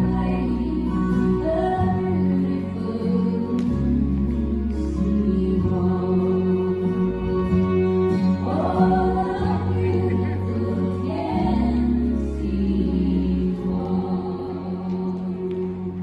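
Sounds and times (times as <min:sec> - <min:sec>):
person singing: 0:00.0 - 0:07.2, 0:08.2 - 0:16.0.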